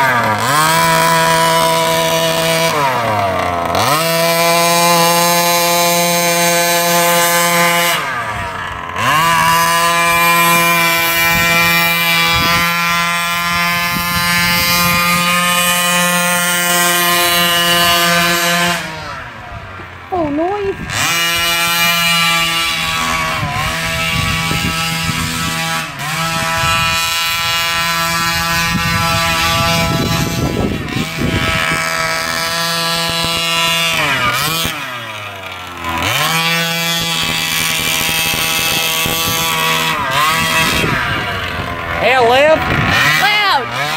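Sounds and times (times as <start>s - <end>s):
small engine buzzing loudly: 0.0s - 43.9s.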